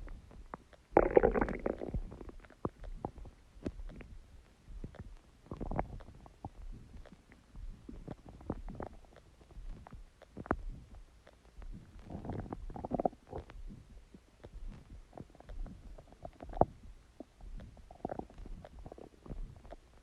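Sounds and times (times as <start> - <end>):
stomach growling and gurgling: 0.0 - 20.0
stomach pops: 0.0 - 20.0.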